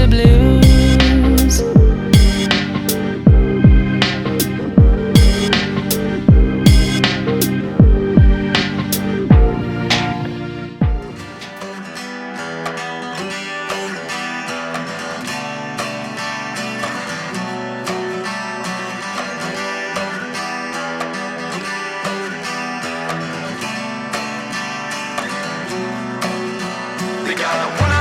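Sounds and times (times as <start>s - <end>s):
acoustic guitar music: 0.0s - 28.0s.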